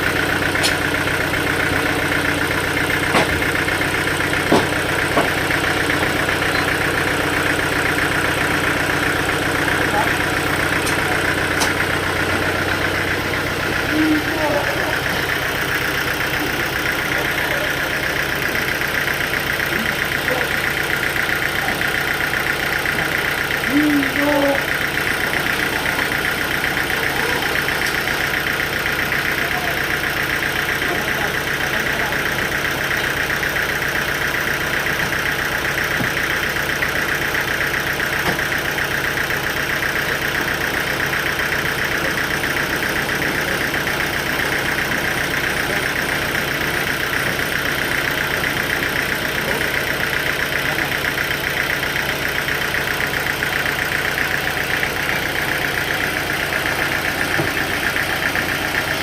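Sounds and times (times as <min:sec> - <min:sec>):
high machine whine: 0:00.0 - 0:59.0
sawmill machinery drone: 0:00.0 - 0:59.0.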